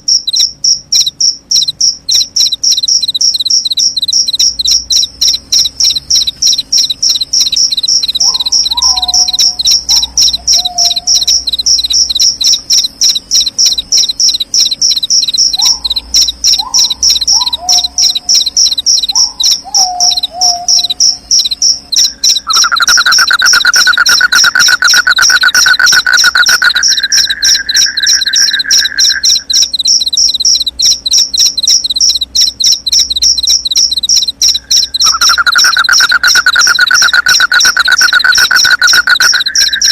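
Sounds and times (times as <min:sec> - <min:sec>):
crickets chirping: 0:00.0 - 0:39.9
low steady trill: 0:00.0 - 0:39.9.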